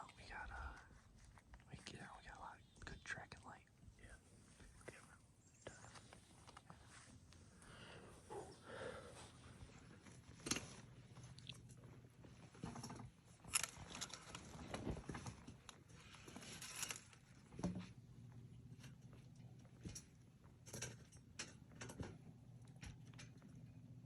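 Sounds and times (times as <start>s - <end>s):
quiet rustling and crunching: 0.0s - 24.0s.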